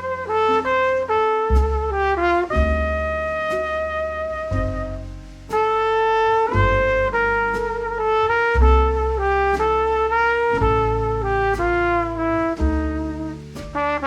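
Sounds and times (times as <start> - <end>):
bass: 0.0 - 14.0
brass melody: 0.0 - 14.0
steady beat: 0.0 - 14.0.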